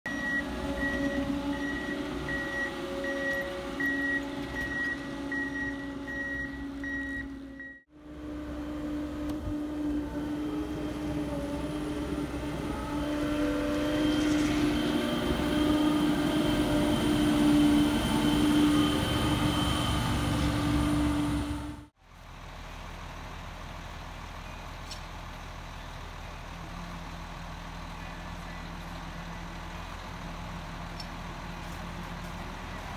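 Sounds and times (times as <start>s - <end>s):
diesel engine running: 0.1s - 32.9s.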